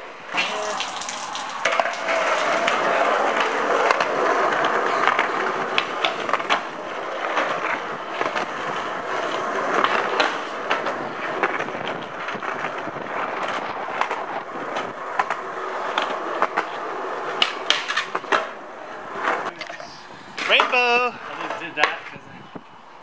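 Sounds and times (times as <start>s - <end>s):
skateboard clicks and knocks: 0.0s - 22.2s
skateboard wheels rolling on pavement: 0.0s - 23.0s.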